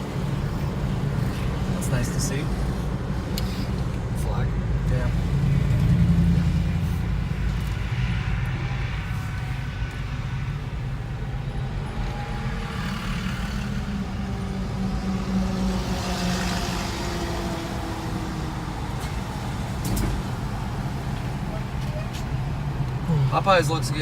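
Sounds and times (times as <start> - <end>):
road noise: 0.0 - 24.0
vehicle engine hum: 0.0 - 24.0.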